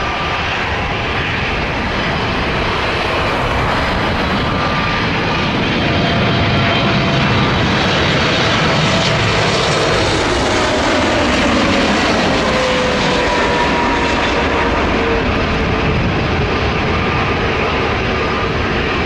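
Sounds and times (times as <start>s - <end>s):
jet engine roar overhead: 0.0s - 19.0s.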